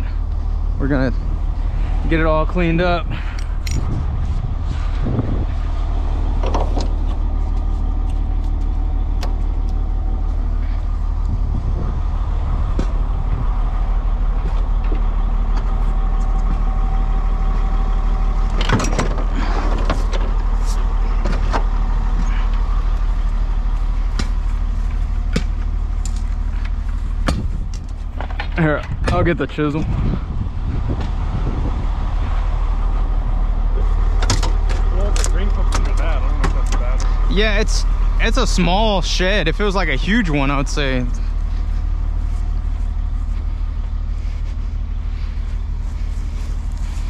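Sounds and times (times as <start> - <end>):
vacuum truck humming: 0.0 - 47.0.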